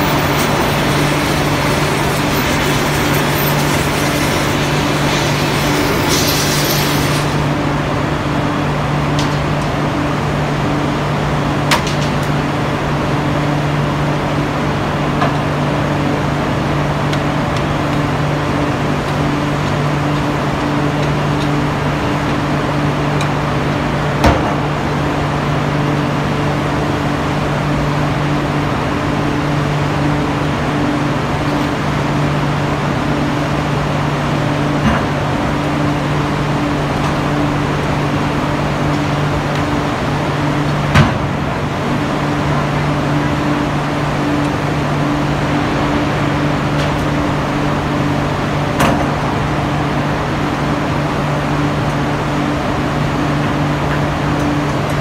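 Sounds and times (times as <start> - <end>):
steel mill machinery hum: 0.0 - 55.0.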